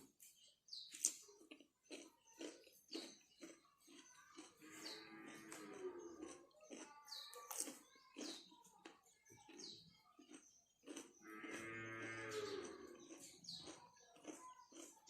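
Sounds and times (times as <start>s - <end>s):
mouth clicks and smacks chewing: 0.0s - 15.0s.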